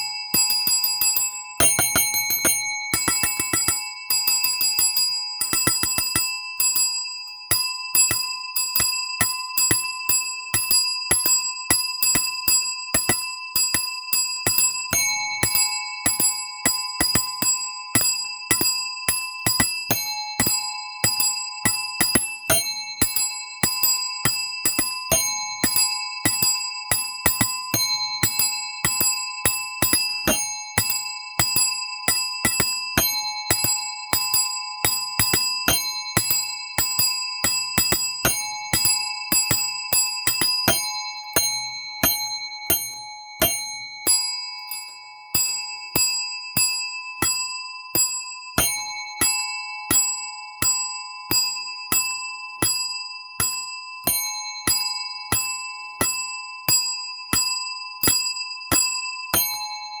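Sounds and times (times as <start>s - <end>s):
small metal bell ringing: 0.0s - 60.0s.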